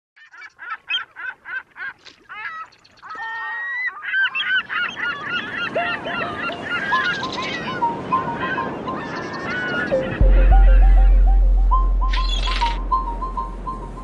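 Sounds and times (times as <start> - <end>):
birds calling: 0.4 - 14.0.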